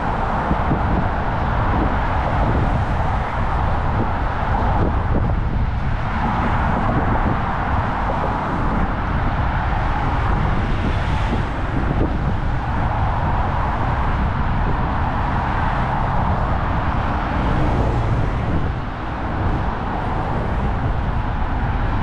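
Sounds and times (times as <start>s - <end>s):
cars passing on busy road: 0.0s - 22.0s
wind rumble on microphone: 0.0s - 22.0s.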